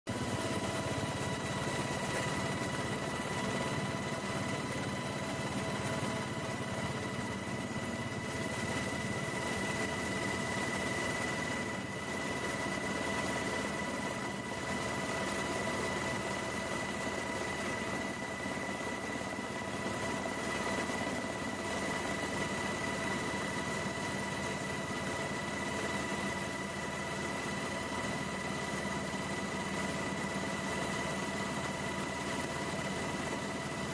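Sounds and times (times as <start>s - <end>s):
high engine whine: 0.1s - 29.4s
aircraft engine drone: 0.1s - 33.9s.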